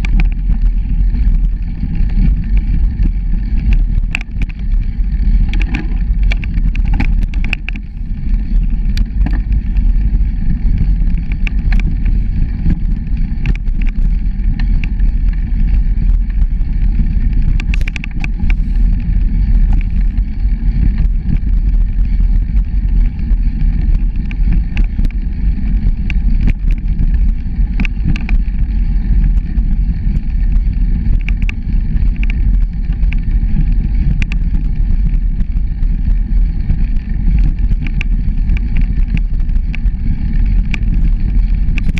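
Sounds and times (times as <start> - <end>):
bicycle rattling over bumps: 0.0 - 41.9
wind rumble on microphone: 0.0 - 41.9.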